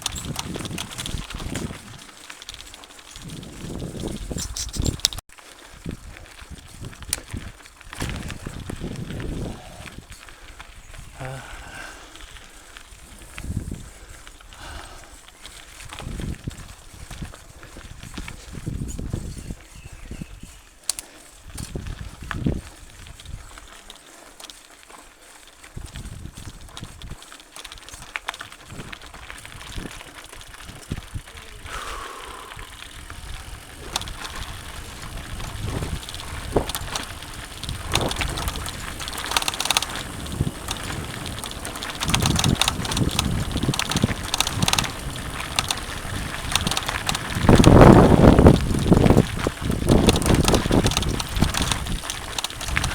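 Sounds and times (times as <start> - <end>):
bike clicks and rattles: 0.0 - 52.9
tyres on dirt trail: 0.0 - 52.9.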